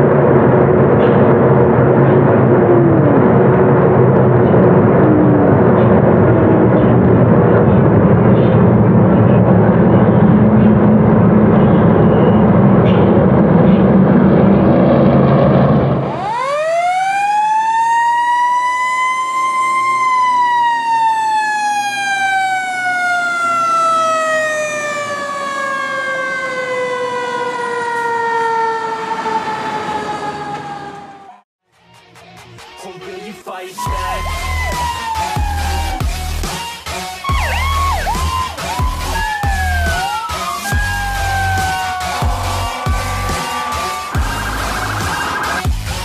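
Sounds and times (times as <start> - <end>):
race truck engines: 0.0 - 31.4, 33.8 - 46.0
fire truck siren: 0.0 - 31.5, 33.8 - 46.0.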